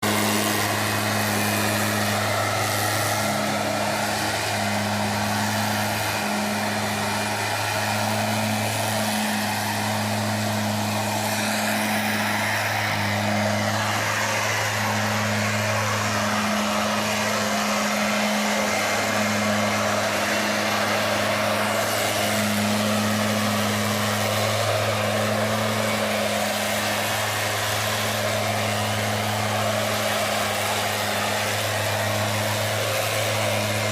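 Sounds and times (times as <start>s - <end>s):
blower-vacuum engine hum: 0.0s - 33.9s
loud rush of air: 0.0s - 33.9s.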